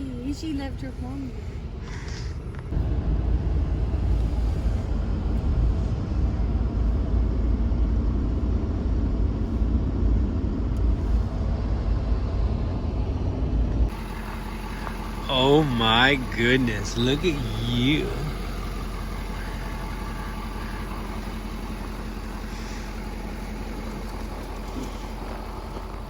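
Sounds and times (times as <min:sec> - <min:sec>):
car interior rumble: 0:00.0 - 0:26.0.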